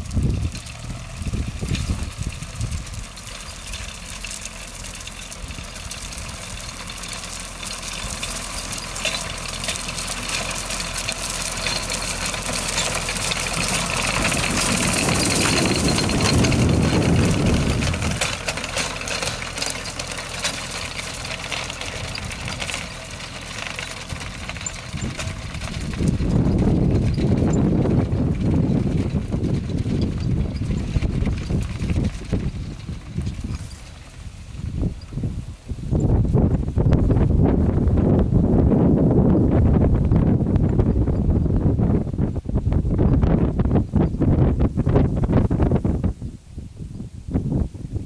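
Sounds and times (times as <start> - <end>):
tractor engine running: 0.0 - 46.2.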